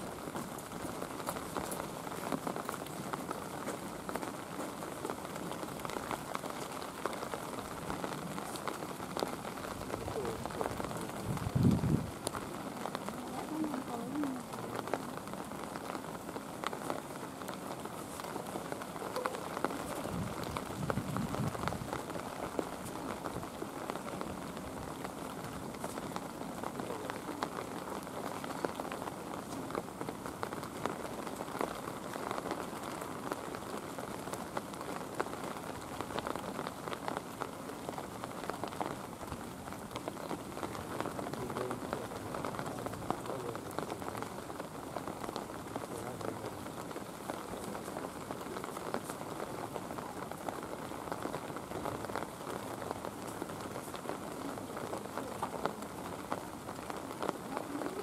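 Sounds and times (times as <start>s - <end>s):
raindrops clicking on surfaces: 0.0s - 58.0s
steady rain falling: 0.0s - 58.0s.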